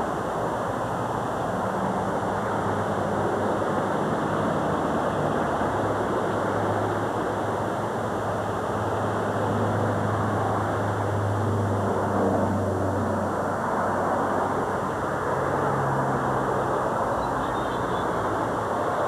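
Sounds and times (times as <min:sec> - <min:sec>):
road noise rushing: 0:00.0 - 0:19.0.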